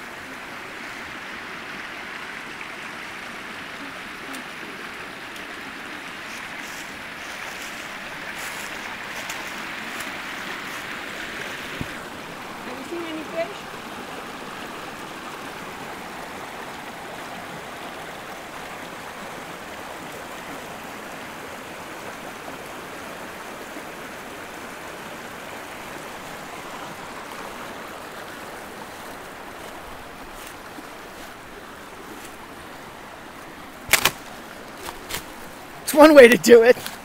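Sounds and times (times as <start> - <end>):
creek rushing over boulders: 0.0 - 37.0.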